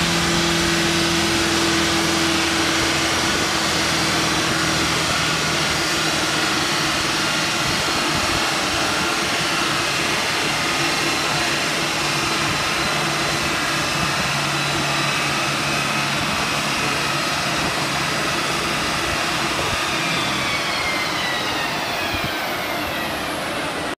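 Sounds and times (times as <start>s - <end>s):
car engine running on dyno: 0.0s - 23.9s
tyres on dyno rollers: 0.0s - 23.9s.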